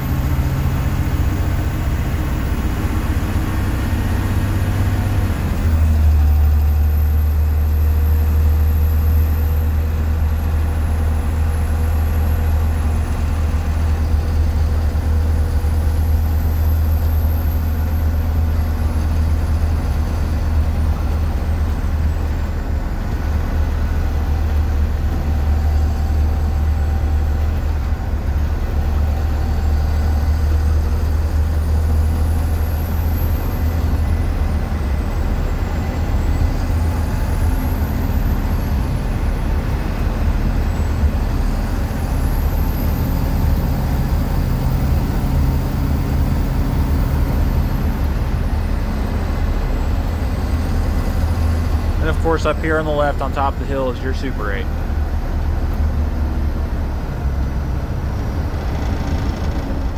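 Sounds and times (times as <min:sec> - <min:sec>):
bus engine droning: 0:00.0 - 0:59.9
road noise: 0:00.0 - 0:59.9.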